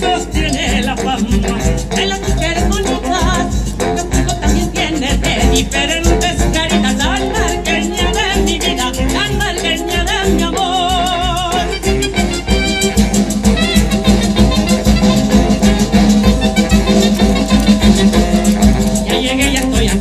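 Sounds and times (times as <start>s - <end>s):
conga drums: 0.0s - 20.0s
latin dance music: 0.0s - 20.0s
saxophone: 0.0s - 20.0s.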